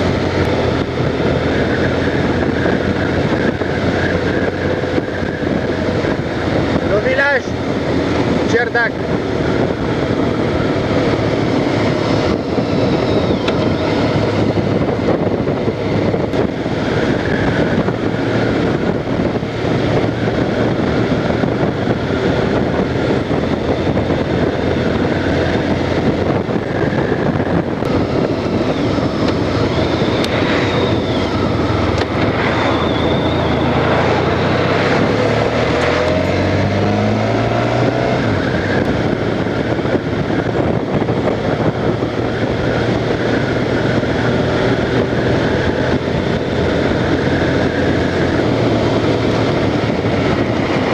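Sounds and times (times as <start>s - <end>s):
motorcycle engine running: 0.0s - 50.9s
wind and road noise: 0.0s - 50.9s.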